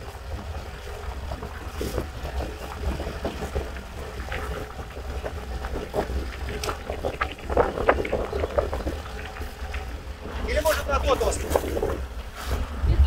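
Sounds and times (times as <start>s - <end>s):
water splashing against dinghy hull: 0.0s - 12.8s
wind rumble on microphone: 0.0s - 13.0s.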